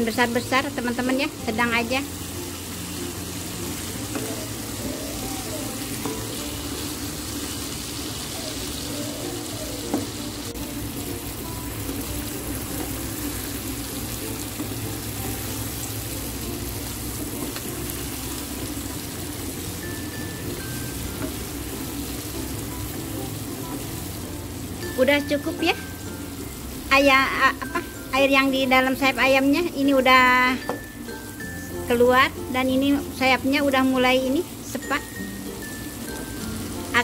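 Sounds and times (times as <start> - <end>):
food sizzling in frying pan: 0.0 - 37.0.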